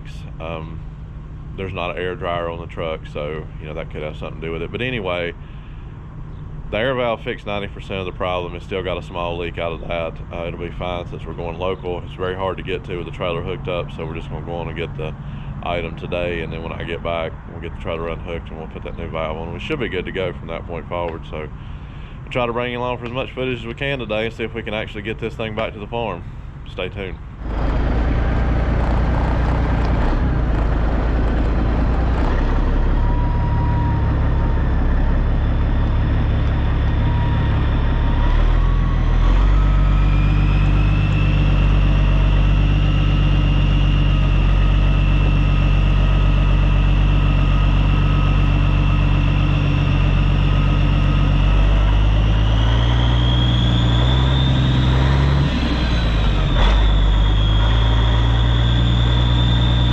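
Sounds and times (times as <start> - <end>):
diesel truck engine running: 0.0 - 59.9
high whine: 0.0 - 59.9.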